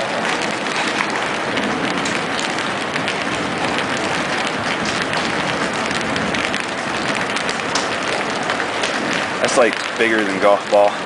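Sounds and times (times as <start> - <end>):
hail and rain pelting: 0.0 - 11.0.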